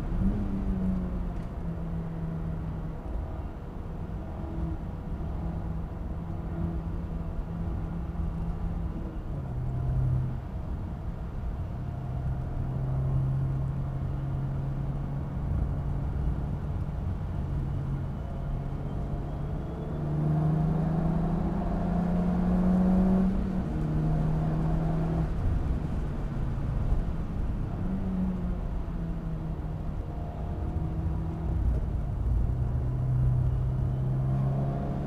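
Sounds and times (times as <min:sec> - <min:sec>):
car engine drone from cabin: 0:00.0 - 0:35.0.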